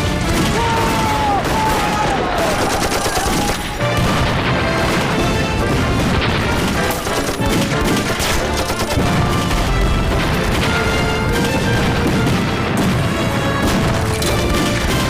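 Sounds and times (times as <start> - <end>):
dramatic music score: 0.0 - 15.0
explosions: 0.0 - 15.0
rapid gunfire: 0.0 - 15.0.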